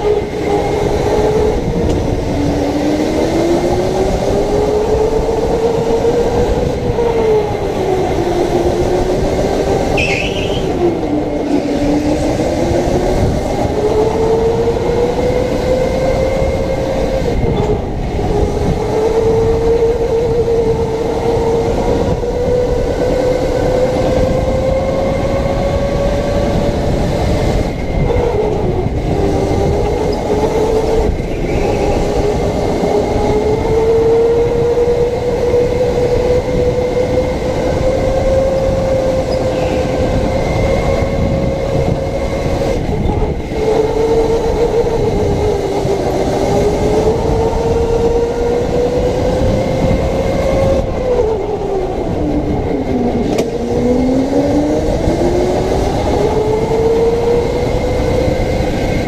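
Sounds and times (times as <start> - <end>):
electric kart motor whining: 0.0 - 59.0.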